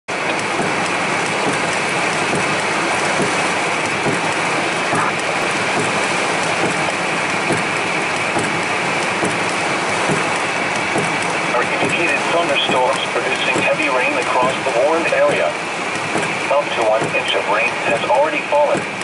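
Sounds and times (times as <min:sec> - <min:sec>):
heavy rain on a car roof: 0:00.1 - 0:19.0.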